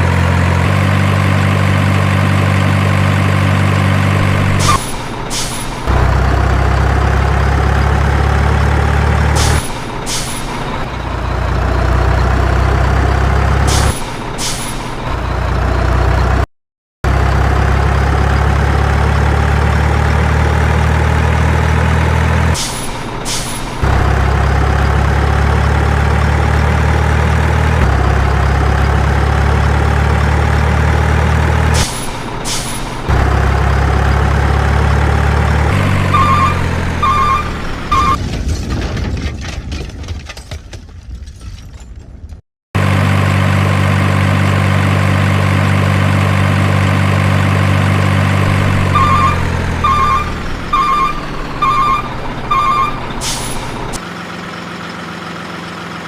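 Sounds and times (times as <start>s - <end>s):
diesel truck engine running: 0.0s - 38.2s, 42.8s - 56.0s.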